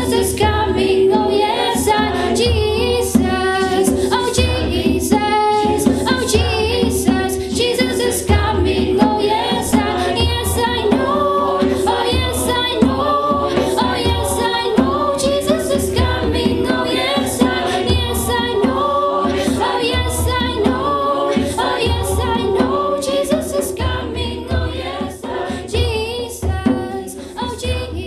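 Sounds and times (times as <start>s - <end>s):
low beat: 0.0s - 26.6s
choir singing a cappella: 0.0s - 28.0s
girl singing into microphone: 0.0s - 28.0s.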